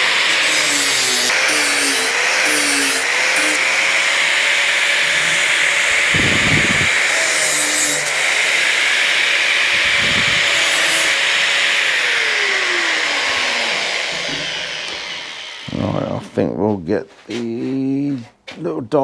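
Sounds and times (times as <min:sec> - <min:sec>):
grinder motor winding down: 0:00.0 - 0:16.2
angle grinder cutting metal: 0:00.0 - 0:16.3.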